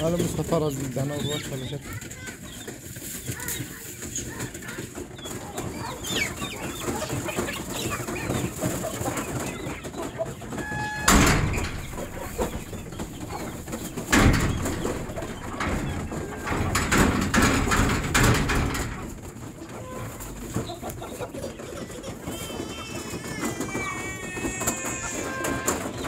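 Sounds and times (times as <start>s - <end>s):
chickens clucking: 0.0s - 26.0s
chicks peeping: 0.0s - 26.0s
loud rustling: 0.0s - 26.0s.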